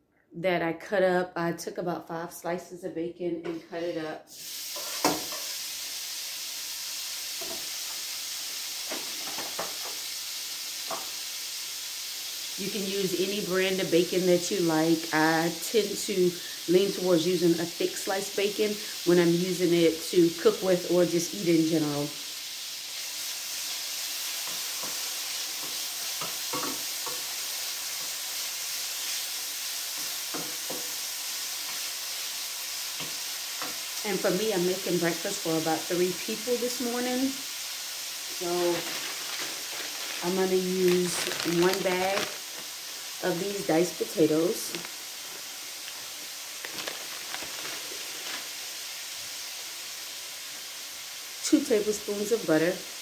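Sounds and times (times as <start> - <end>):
bacon sizzling in a skillet: 4.3 - 53.0.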